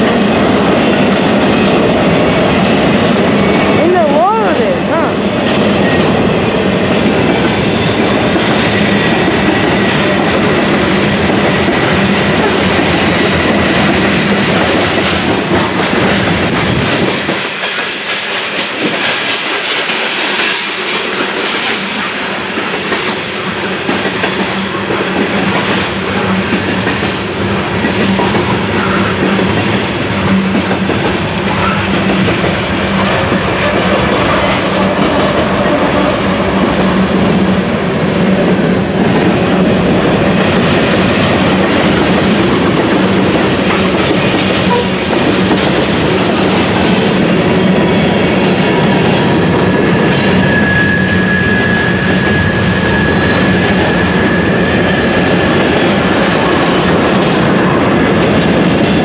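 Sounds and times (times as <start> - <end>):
diesel locomotive engine hum: 0.0 - 59.0
train wheels clattering over rails: 0.0 - 59.0.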